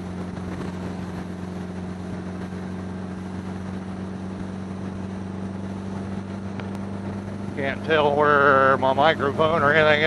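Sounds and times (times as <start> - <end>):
motorcycle engine droning: 0.0 - 10.0.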